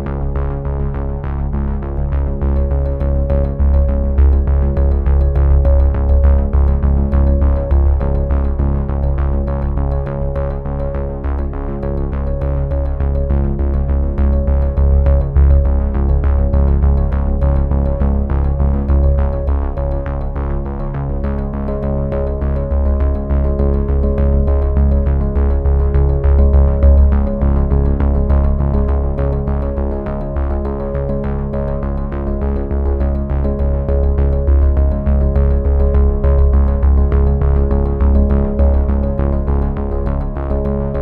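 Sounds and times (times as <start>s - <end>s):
synthesizer music with beat: 0.0s - 41.0s.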